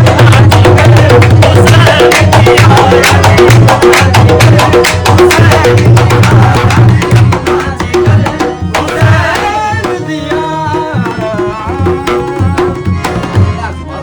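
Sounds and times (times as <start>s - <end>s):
tabla strokes: 0.0s - 13.7s.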